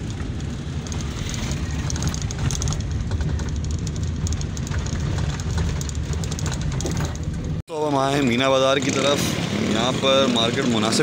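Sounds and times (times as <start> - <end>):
car engine rumble: 0.0 - 9.2.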